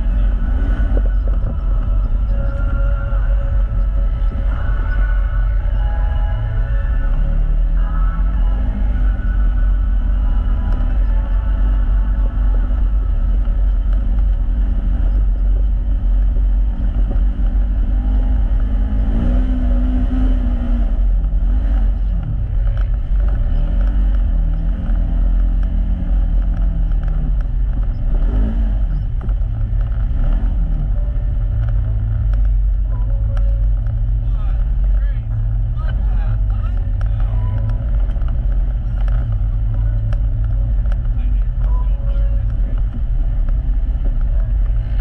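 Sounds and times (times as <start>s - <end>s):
engine revving: 0.0s - 45.0s
steady low rumble: 0.0s - 45.0s.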